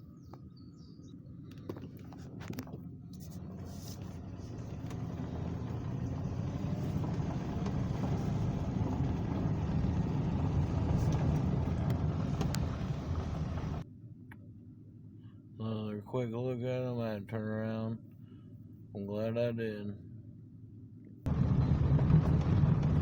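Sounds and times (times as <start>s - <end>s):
vehicle road and engine rumble: 0.0s - 15.5s, 20.0s - 23.0s.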